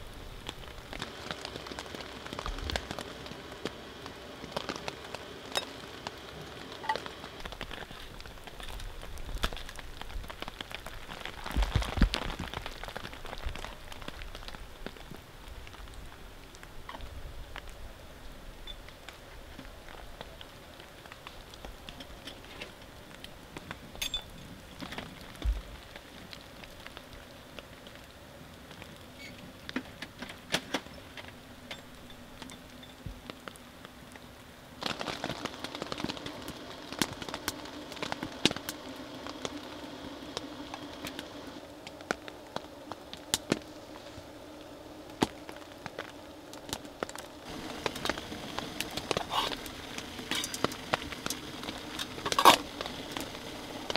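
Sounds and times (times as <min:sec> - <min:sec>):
steady hiss: 0:00.0 - 0:53.9
wood crackling and popping in stove: 0:00.0 - 0:53.9.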